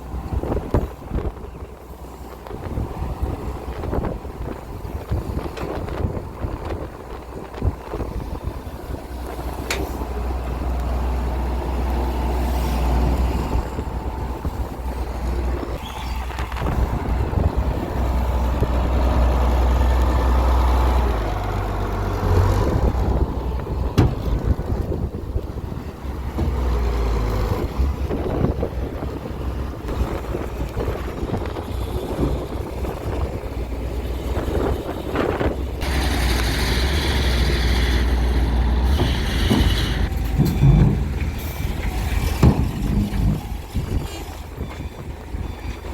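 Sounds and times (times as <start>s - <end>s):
heavy diesel engines under load: 0.0s - 45.9s.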